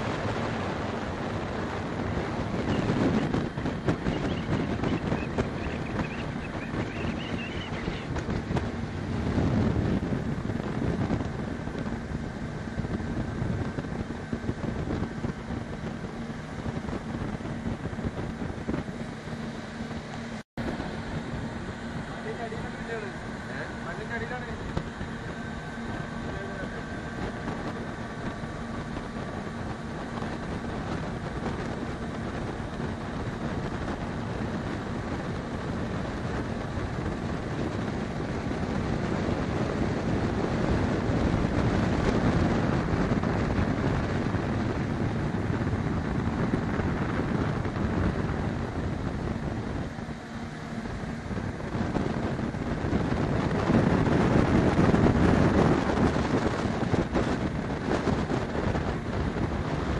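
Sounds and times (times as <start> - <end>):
motorboat engine running: 0.0 - 59.9
wind buffeting microphone: 0.0 - 59.9.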